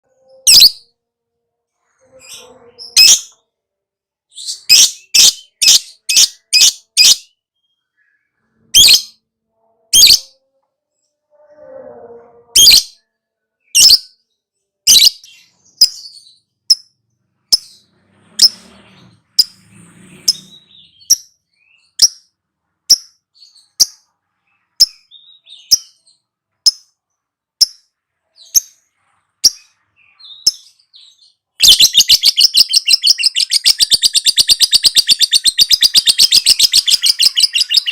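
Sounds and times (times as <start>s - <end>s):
bird chirping: 0.0s - 1.0s, 1.7s - 3.5s, 4.3s - 37.9s.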